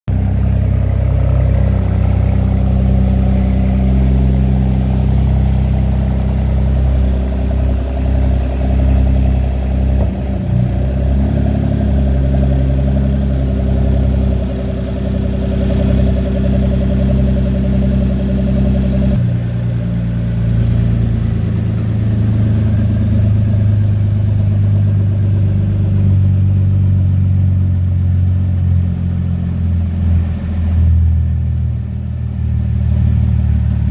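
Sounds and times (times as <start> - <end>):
unsilenced car engine idling: 0.1 - 33.9.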